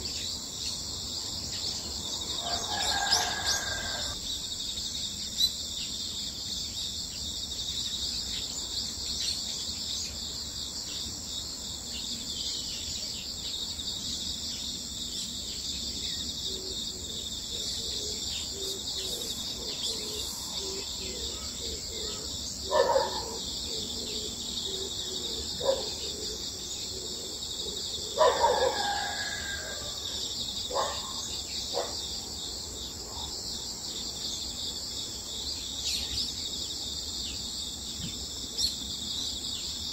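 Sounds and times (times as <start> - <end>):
high-pitched insects chorus: 0.0 - 39.9.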